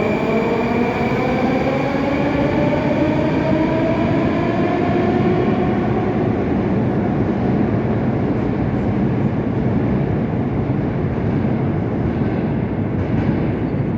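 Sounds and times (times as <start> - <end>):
train rumbling on rails: 0.0 - 13.9.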